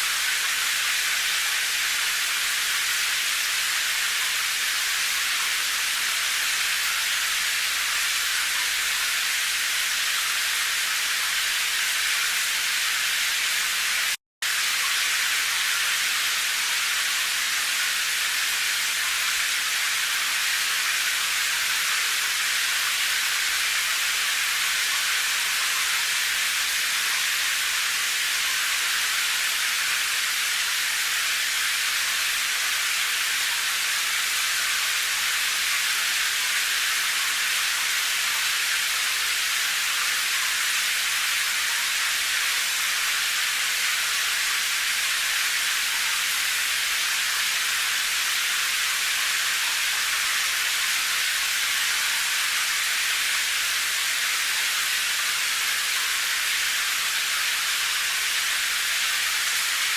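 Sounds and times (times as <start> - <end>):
steady hiss of rain: 0.0 - 59.9.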